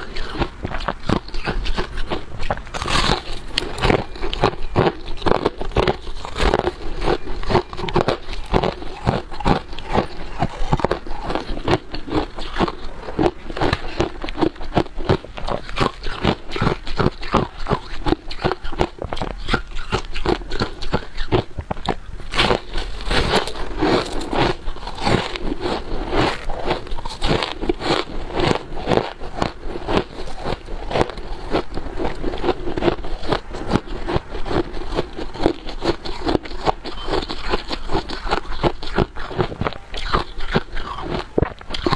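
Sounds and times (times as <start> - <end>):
ice being crunched by chewing: 0.0 - 41.9.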